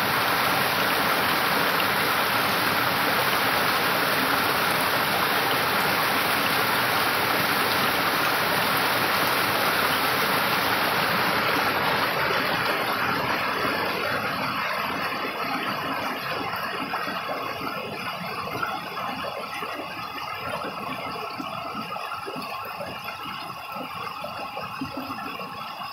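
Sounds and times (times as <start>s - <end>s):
stream cascading over rocks: 0.0s - 25.9s.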